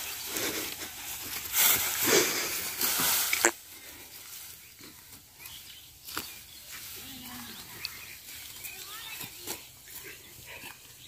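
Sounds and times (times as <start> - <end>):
dry straw rustling and crackling: 0.0 - 10.4.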